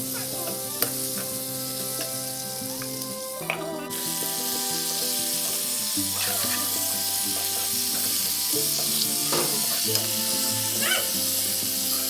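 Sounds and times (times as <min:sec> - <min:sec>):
background music: 0:00.0 - 0:12.0
food sizzling in a pan: 0:00.0 - 0:12.0.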